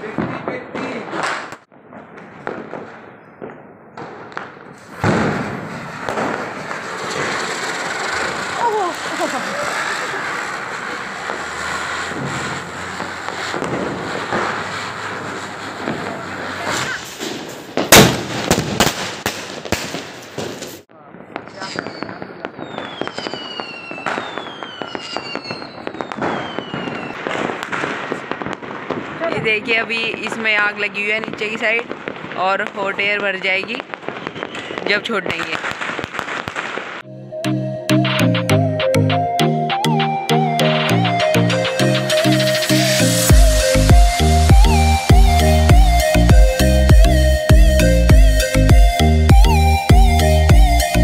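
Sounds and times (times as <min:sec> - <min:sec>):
firecracker sparks hissing: 0:04.0 - 0:37.1, 0:40.9 - 0:51.0.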